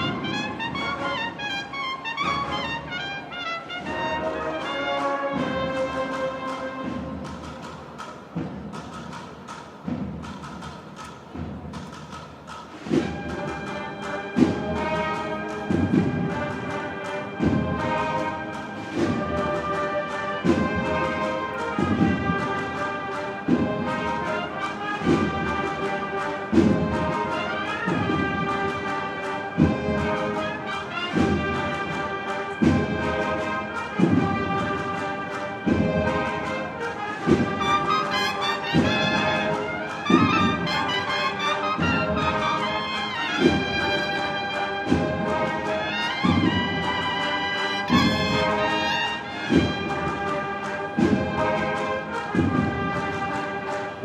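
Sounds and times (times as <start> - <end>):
brass melody: 0.0 - 8.0, 12.8 - 54.0.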